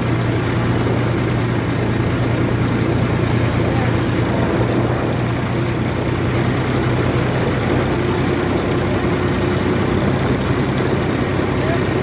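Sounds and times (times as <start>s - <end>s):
diesel engine humming steadily: 0.0s - 12.0s.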